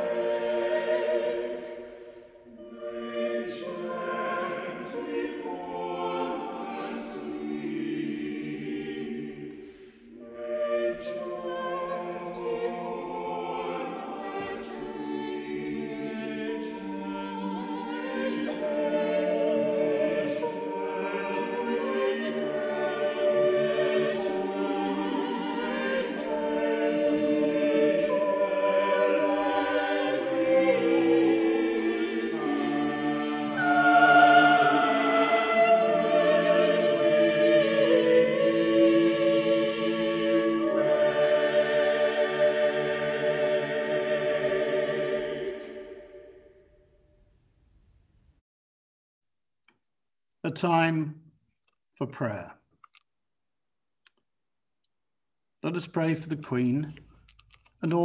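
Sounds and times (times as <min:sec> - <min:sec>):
mixed choir singing: 0:00.0 - 0:46.7.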